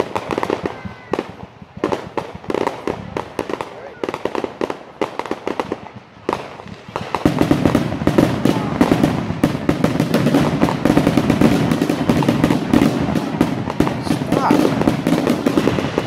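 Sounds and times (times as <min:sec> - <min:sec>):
firework shells bursting: 0:00.0 - 0:16.0
fireworks crackling and popping: 0:00.0 - 0:16.0.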